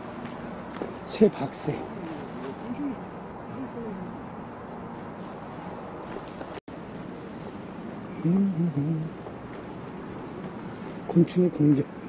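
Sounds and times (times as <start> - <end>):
faint insect chirping: 0.0 - 12.0.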